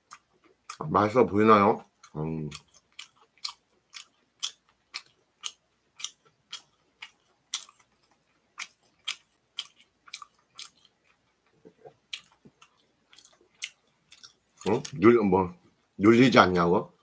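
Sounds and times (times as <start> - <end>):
man chewing: 0.0 - 0.8, 1.8 - 15.0.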